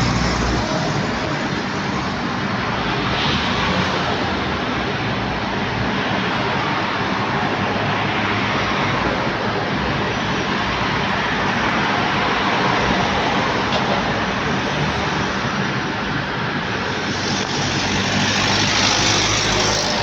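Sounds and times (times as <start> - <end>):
jet airliner engine rush: 0.0 - 20.0.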